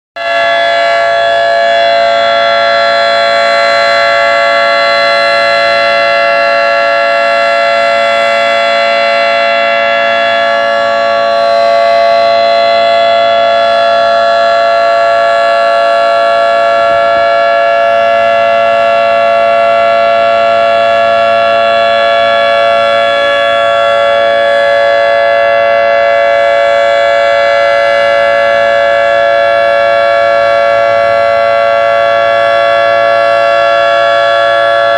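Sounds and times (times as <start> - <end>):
steady dual-tone siren: 0.0 - 34.9.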